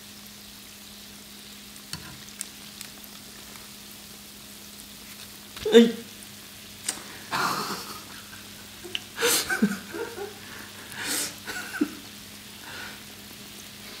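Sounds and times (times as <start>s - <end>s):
faint steady hum: 0.0s - 14.0s
oil sizzling and bubbling: 0.0s - 14.0s
oil crackling: 0.5s - 14.0s.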